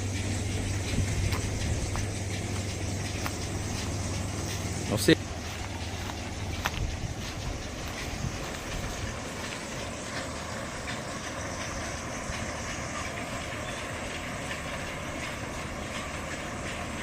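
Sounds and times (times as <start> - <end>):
mill machinery humming: 0.0 - 17.0.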